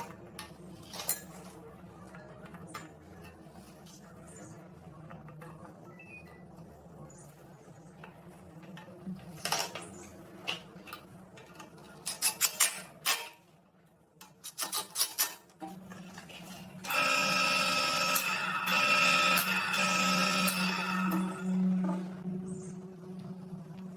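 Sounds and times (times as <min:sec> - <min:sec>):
steady multi-tone hum: 0:00.0 - 0:23.9.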